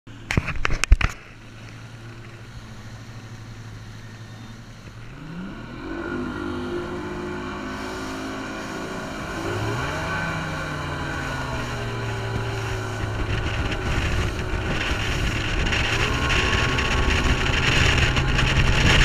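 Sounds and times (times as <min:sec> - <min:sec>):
outboard boat engine hum: 0:00.1 - 0:19.0.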